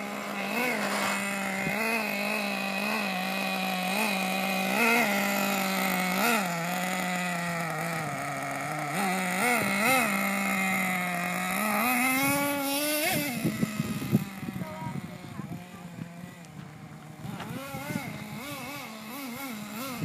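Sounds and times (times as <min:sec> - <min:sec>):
small nitro engine revving: 0:00.0 - 0:20.0.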